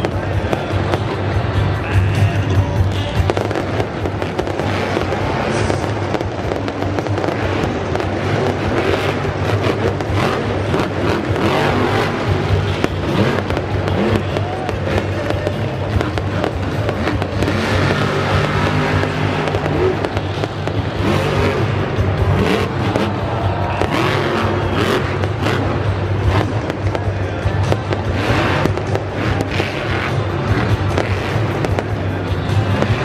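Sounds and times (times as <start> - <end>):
exhaust popping: 0.0 - 33.0
monster truck engine running hard: 0.0 - 33.0
music over sound system: 0.0 - 33.0.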